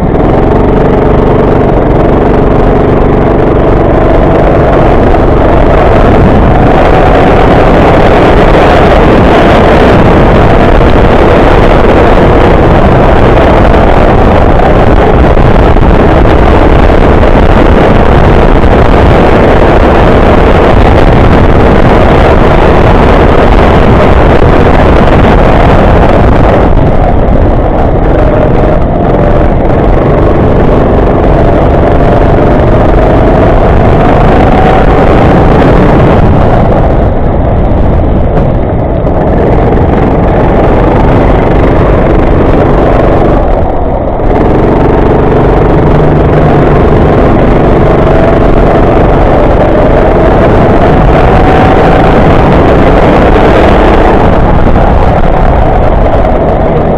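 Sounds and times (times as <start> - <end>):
go-kart engine running hard: 0.0 - 56.9
rushing wind and track spray: 0.0 - 56.9.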